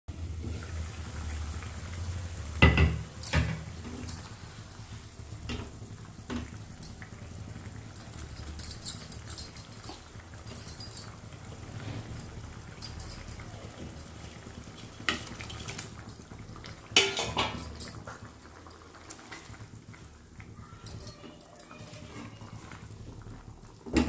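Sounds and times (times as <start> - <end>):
utensils and dishes clinking: 1.8 - 19.9, 20.6 - 23.0.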